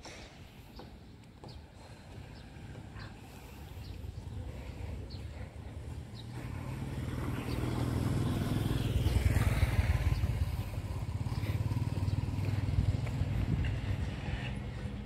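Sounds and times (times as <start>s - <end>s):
motorbike passing: 1.8s - 15.0s.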